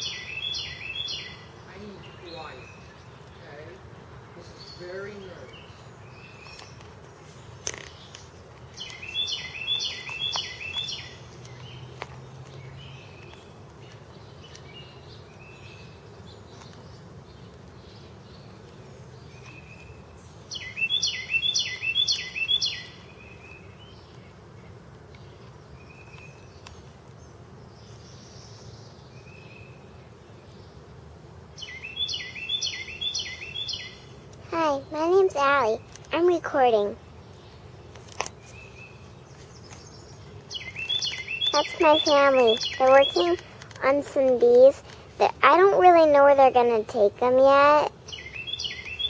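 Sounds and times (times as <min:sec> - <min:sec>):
songbird chirping: 0:00.0 - 0:49.0.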